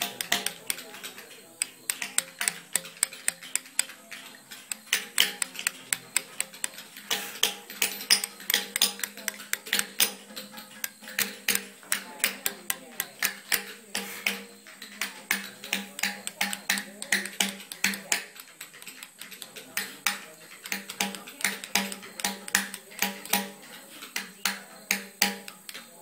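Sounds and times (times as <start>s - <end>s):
hammer tapping chisel on stone: 0.0s - 26.0s.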